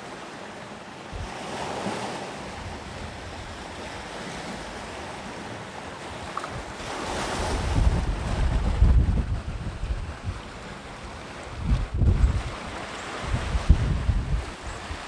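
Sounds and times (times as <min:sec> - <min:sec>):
sea waves breaking on shore: 0:00.0 - 0:15.0
wind buffeting microphone: 0:01.1 - 0:01.9, 0:02.5 - 0:15.0.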